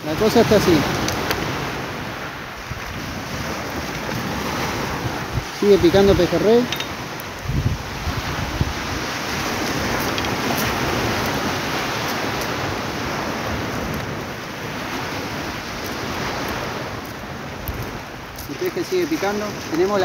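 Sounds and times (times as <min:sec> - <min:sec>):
surf breaking on shore: 0:00.0 - 0:20.0.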